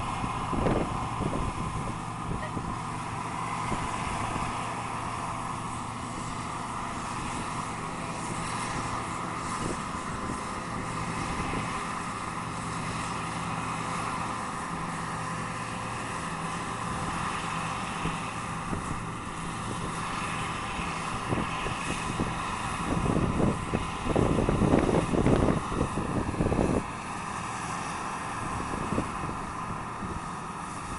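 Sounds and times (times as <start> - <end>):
wind buffeting microphone: 0.0 - 13.6, 16.9 - 30.9
combine harvester running: 0.0 - 30.9.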